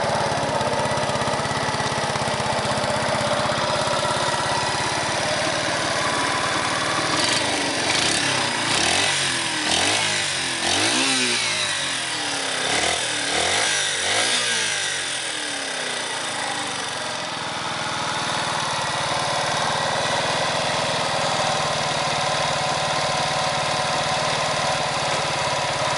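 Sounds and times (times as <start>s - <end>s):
motorcycle engine revving and idling: 0.0s - 25.9s.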